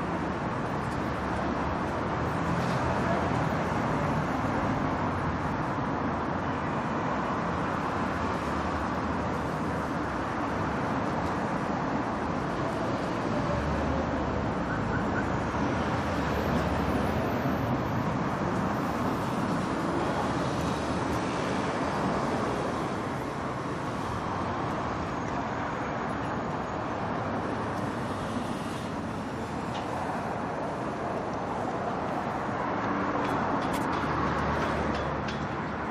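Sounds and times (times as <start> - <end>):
heavy street traffic: 0.0 - 35.9.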